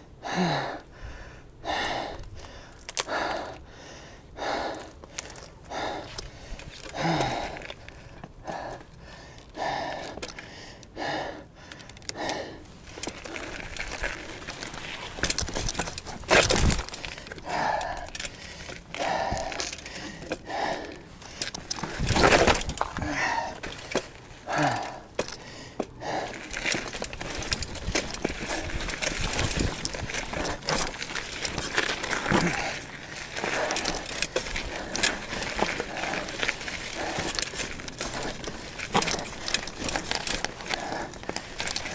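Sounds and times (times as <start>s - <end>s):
hard rhythmic breathing: 0.2s - 41.9s.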